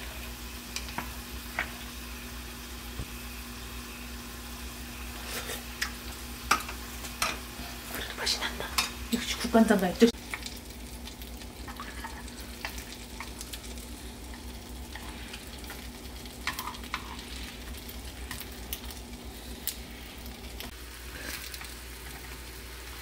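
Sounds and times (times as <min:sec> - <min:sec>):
food sizzling in a pan: 0:00.0 - 0:23.0
pops and crackles of frying: 0:00.0 - 0:23.0.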